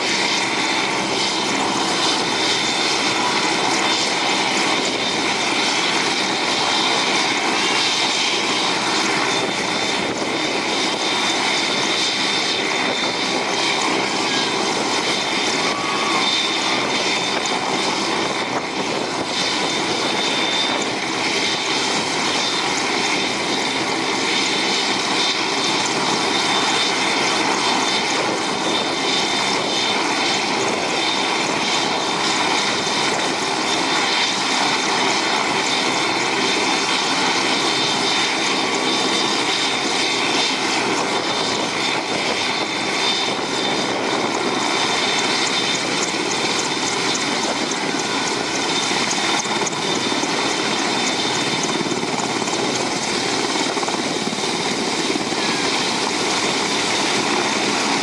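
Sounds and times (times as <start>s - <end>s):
helicopter engines and rotors: 0.0s - 58.0s.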